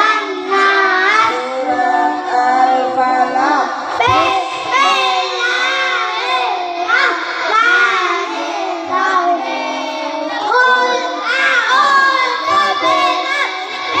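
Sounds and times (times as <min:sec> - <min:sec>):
boys chanting in unison: 0:00.0 - 0:14.0.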